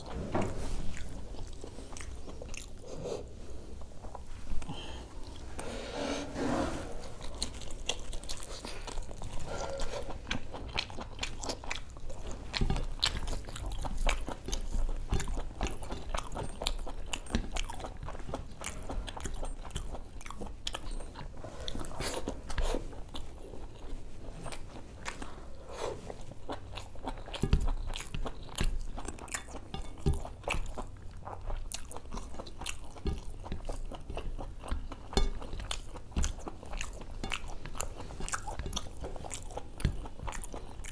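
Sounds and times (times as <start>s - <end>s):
person chewing with wet mouth sounds: 0.0s - 5.6s, 7.0s - 40.9s.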